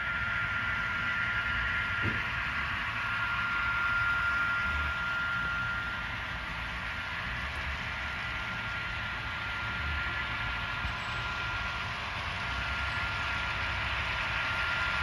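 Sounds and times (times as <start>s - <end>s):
high constant whine: 0.0s - 15.0s
model train whirring: 0.0s - 15.0s.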